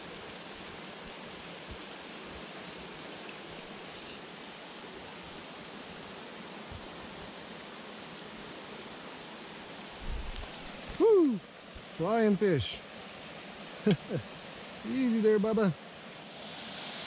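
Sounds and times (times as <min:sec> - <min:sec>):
brook running over rocks: 0:00.0 - 0:15.9.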